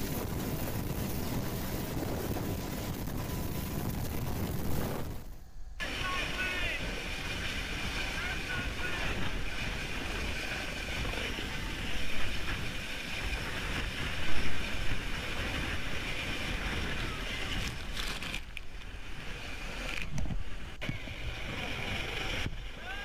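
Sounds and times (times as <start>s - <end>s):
boat engine noise: 0.0s - 23.0s.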